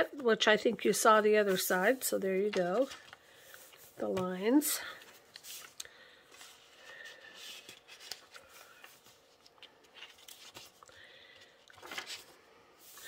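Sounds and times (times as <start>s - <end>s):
paper pages rustling: 0.8s - 13.0s.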